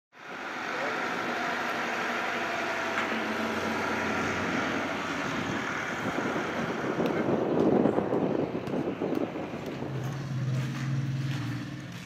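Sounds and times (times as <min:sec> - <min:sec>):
outdoor noise: 0:00.1 - 0:12.0
steady engine-like drone: 0:00.2 - 0:12.0.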